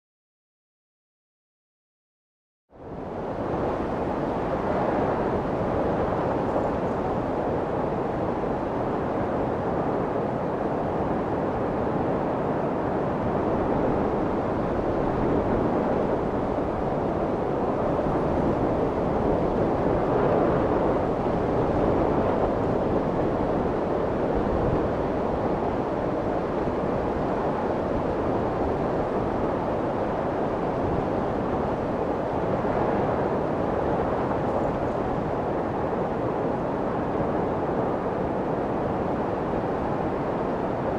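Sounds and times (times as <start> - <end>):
rushing white noise: 2.8 - 40.9.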